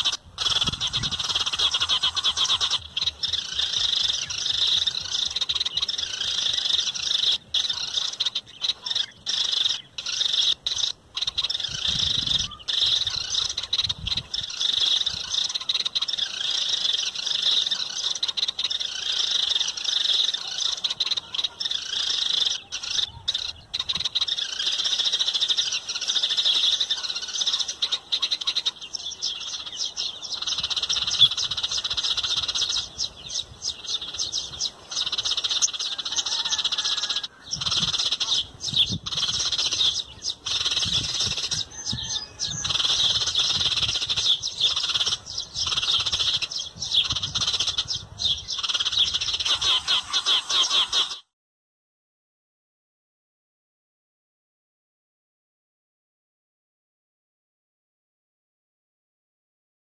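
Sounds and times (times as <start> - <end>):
chorus of small birds chirping: 0.0 - 51.3.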